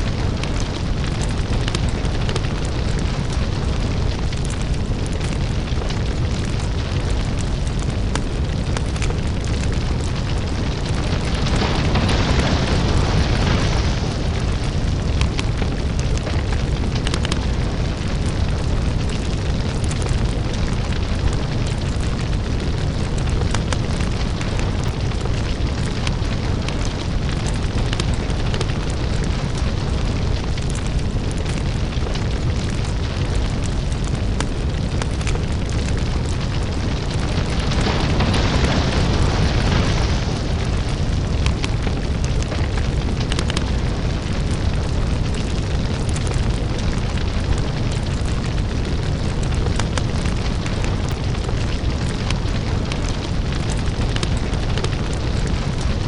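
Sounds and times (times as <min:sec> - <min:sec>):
fire crackling and popping: 0:00.0 - 0:56.0
lava fire rumble: 0:00.0 - 0:56.0.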